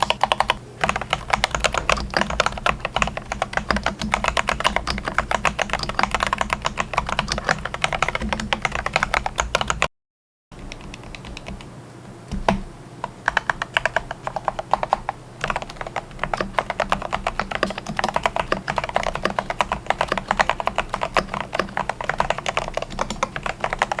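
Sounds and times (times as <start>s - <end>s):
rapid keyboard typing: 0.0s - 9.9s, 10.6s - 11.7s, 12.3s - 24.0s.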